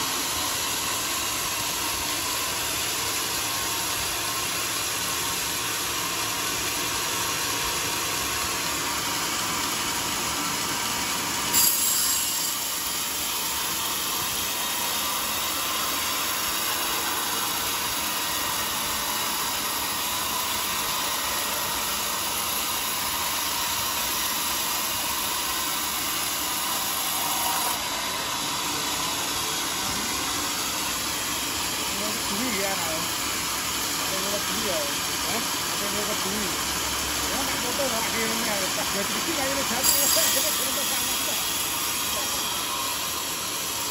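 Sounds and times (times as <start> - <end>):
band saw cutting wood: 0.0 - 43.9.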